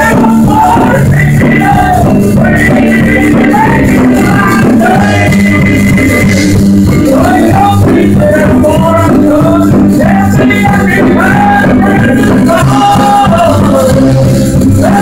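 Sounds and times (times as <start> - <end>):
song with band accompaniment: 0.0 - 15.0.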